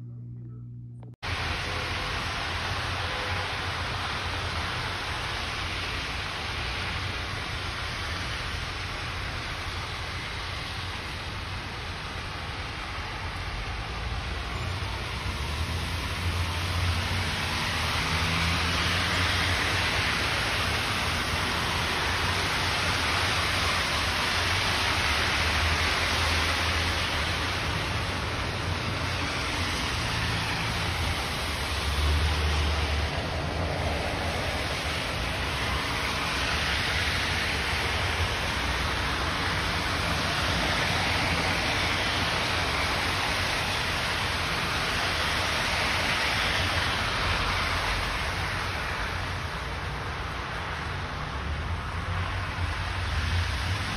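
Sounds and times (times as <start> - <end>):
traffic hiss on wet road: 1.2 - 53.9.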